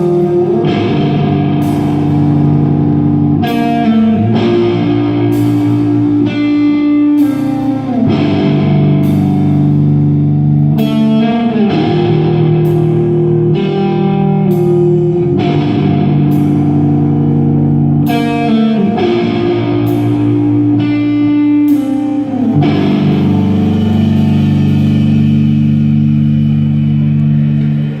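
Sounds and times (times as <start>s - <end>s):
cymbal crashes: 0.0s - 28.0s
electric guitar chords: 0.0s - 28.0s.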